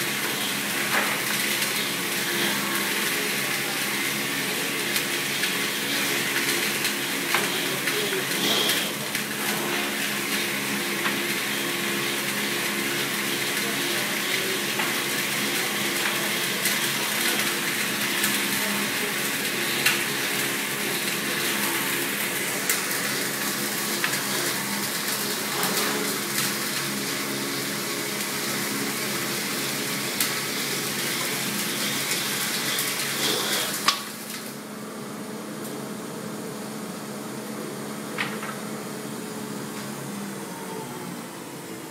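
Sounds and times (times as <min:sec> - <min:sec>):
woodworking machine cutting: 0:00.0 - 0:34.5.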